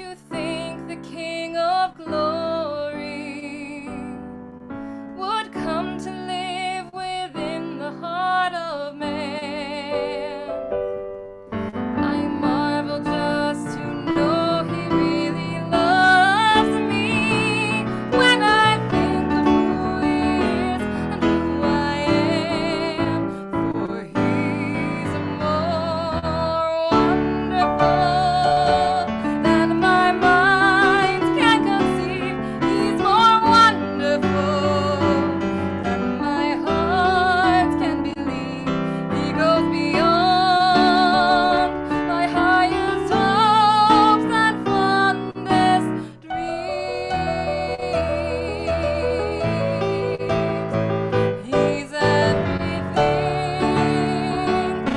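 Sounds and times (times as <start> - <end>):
woman singing with vibrato: 0.0 - 4.2, 5.2 - 10.6, 11.9 - 54.9
piano: 0.0 - 54.9.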